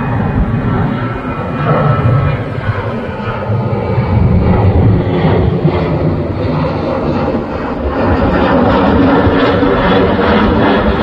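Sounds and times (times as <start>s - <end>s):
jet aircraft flying overhead: 0.0s - 11.0s.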